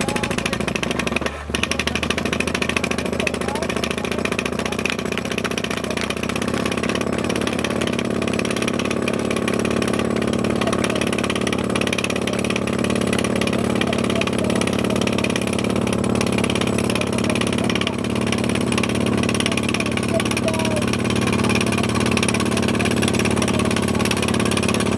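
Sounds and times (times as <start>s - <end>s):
drilling rig engine drone: 0.0s - 24.9s
fast even rattle: 0.0s - 24.9s.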